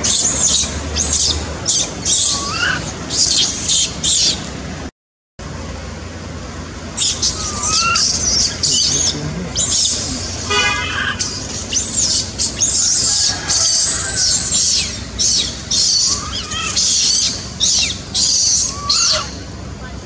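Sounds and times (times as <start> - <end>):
animal squeal: 0.0 - 4.4, 7.0 - 19.4
animal chirps and squeaks: 0.0 - 4.5, 7.0 - 19.5.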